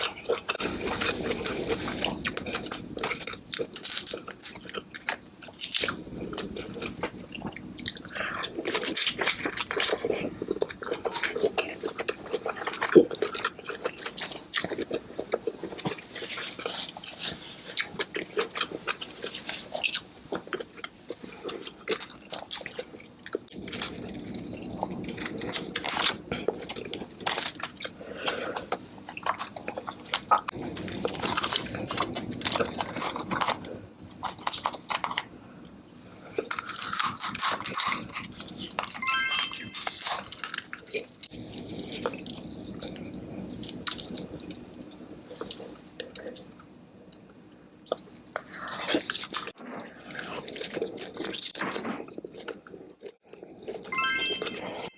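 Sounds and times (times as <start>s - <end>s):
chewing and crunching: 0.0s - 39.1s, 40.0s - 54.2s.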